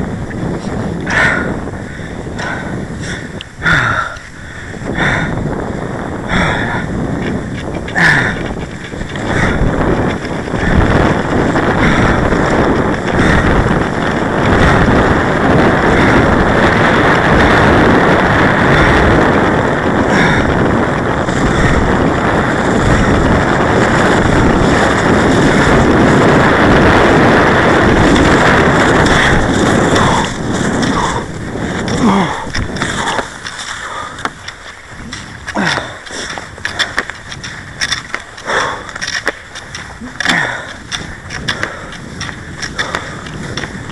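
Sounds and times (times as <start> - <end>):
wind buffeting microphone: 0.0 - 43.9
skis sliding on packed snow: 6.8 - 43.9.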